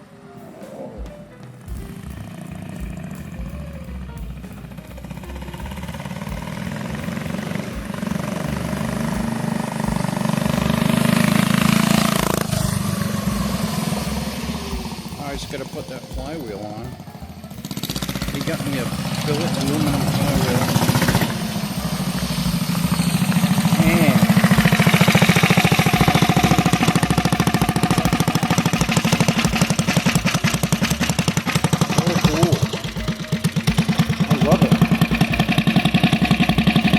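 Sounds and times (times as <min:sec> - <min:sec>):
mini bike engine under throttle: 0:05.1 - 0:15.6, 0:17.4 - 0:36.9.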